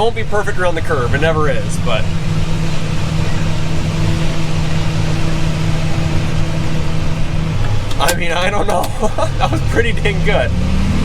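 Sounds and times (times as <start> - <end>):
combine harvester drone: 0.0 - 11.0
constant rushing noise: 0.0 - 11.0.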